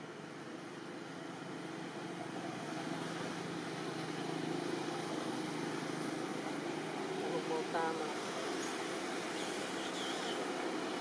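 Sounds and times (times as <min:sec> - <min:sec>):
outdoor hum and hiss: 0:00.0 - 0:11.0.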